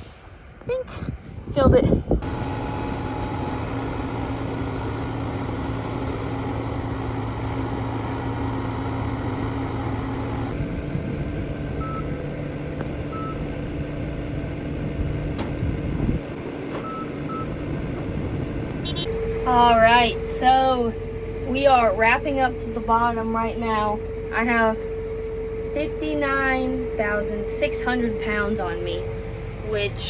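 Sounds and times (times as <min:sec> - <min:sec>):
vehicle engine running: 0:01.6 - 0:30.0.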